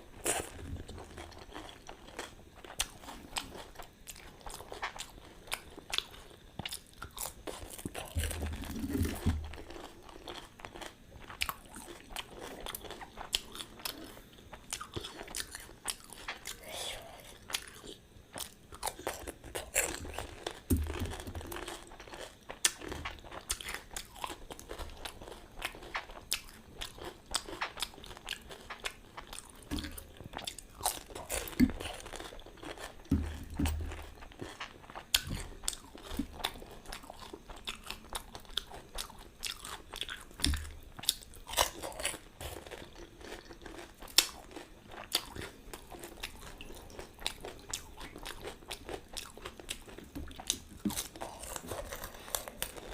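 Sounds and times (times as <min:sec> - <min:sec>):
crisp food crunching: 0:00.2 - 0:52.9.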